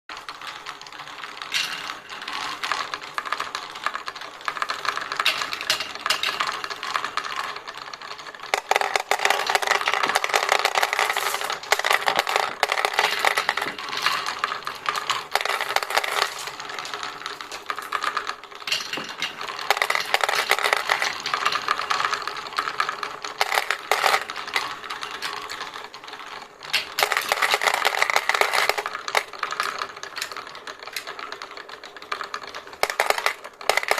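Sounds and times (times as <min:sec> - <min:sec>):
marbles rolling and clattering: 0:00.1 - 0:33.9.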